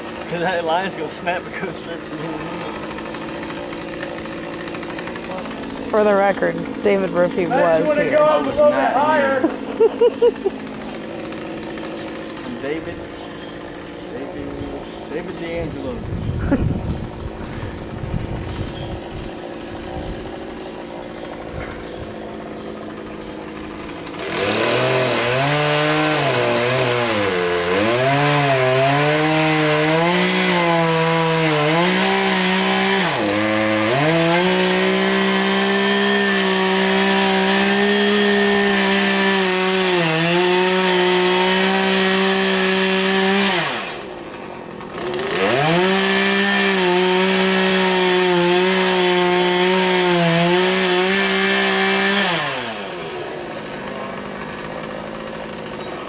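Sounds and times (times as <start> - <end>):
chainsaw idling and revving: 0.0 - 56.0.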